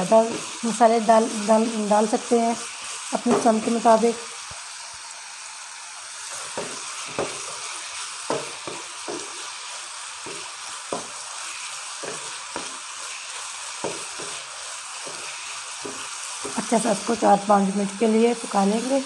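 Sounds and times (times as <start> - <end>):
wooden spatula scraping a pan: 0.0 - 4.1, 6.2 - 19.0
chicken sizzling in oil: 0.0 - 19.0.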